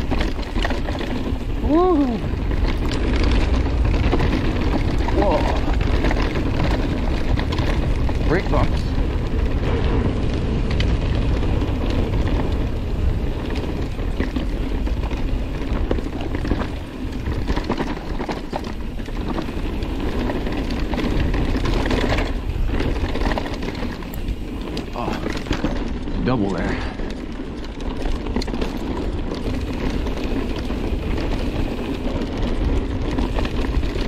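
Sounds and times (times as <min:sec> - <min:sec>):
bike chain and frame rattling: 0:00.0 - 0:34.0
knobby tyres humming on dirt: 0:00.0 - 0:34.0
wind buffeting microphone: 0:00.0 - 0:34.0.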